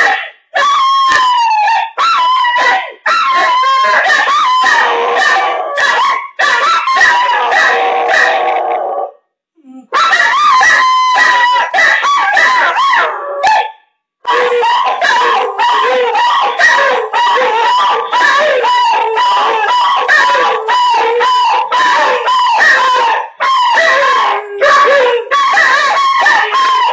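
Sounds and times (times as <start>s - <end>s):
dogs howling: 0.0s - 9.1s, 9.9s - 13.7s, 14.3s - 26.9s.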